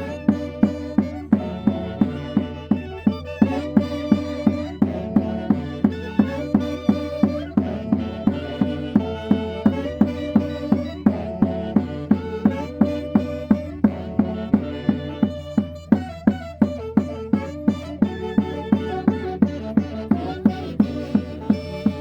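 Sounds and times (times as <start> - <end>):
steady drum beat: 0.0 - 22.0
wavering folk melody: 0.0 - 22.0.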